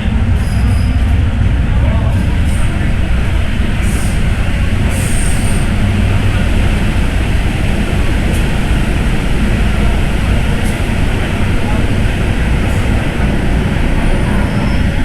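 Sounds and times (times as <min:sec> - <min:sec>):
train rumbling through tunnel: 0:00.0 - 0:15.0.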